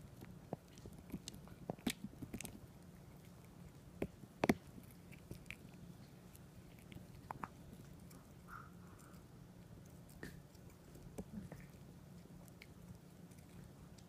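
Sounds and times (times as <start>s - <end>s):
dog chewing with teeth clicks: 0.0s - 14.0s.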